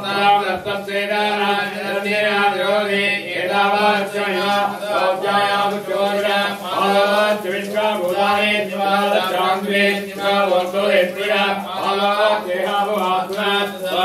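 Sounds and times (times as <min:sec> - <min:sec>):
men chanting: 0:00.0 - 0:14.0.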